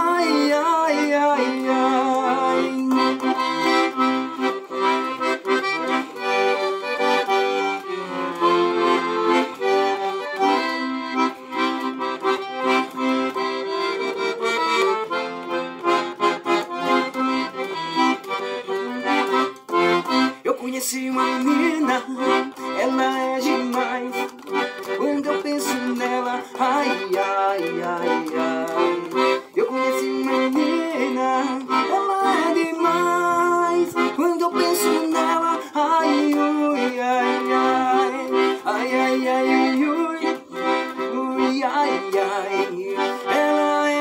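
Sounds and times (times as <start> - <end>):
piano accordion playing: 0.0 - 44.0.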